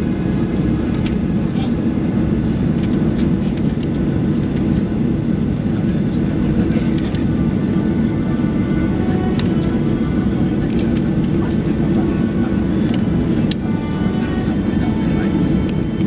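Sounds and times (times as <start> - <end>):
faint engine whine: 0.0 - 16.0
jet engine low rumble: 0.0 - 16.0.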